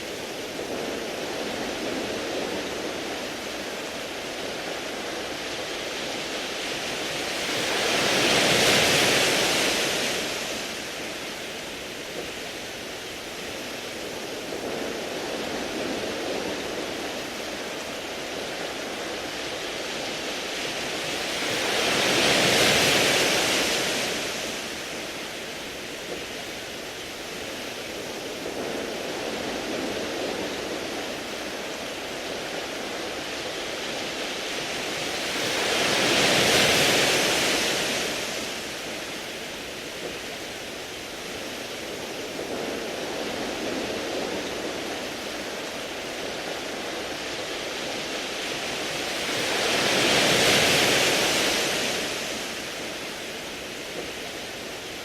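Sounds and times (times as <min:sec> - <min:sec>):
waves washing onto pebble beach: 0:00.0 - 0:55.0.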